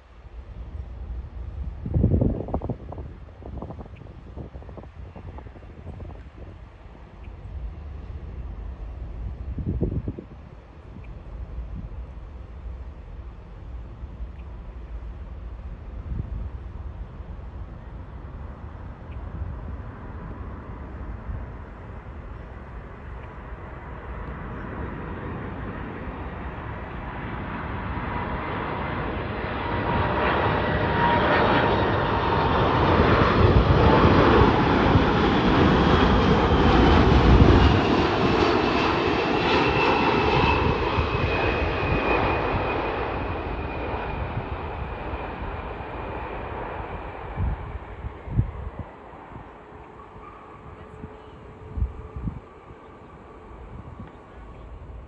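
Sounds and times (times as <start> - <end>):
jet airliner passing by: 0.0 - 55.0.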